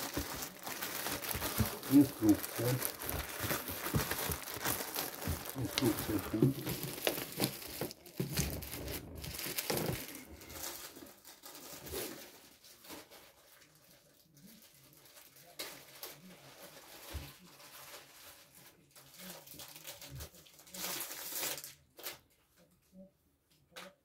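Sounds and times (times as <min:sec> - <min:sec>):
plastic bag and cardboard rustling: 0:00.0 - 0:22.2.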